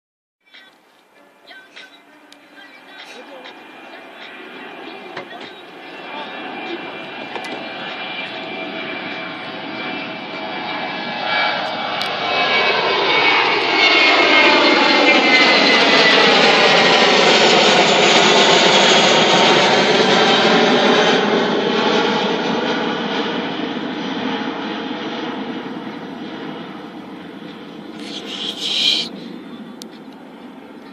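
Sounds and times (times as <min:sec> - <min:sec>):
jet airliner passing overhead: 0:00.5 - 0:30.9.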